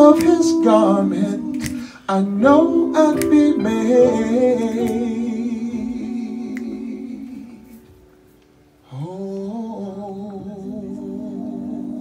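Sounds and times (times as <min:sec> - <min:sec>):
live soul band music: 0:00.0 - 0:12.0.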